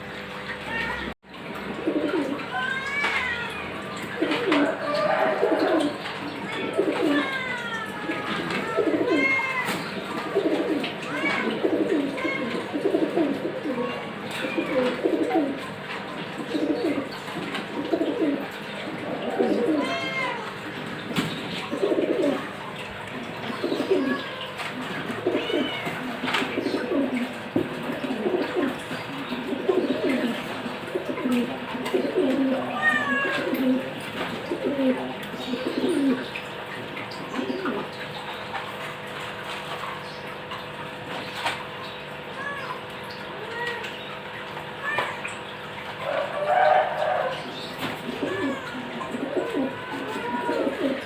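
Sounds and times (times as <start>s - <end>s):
bird cooing: 1.6s - 20.6s, 21.2s - 38.6s, 45.8s - 51.0s.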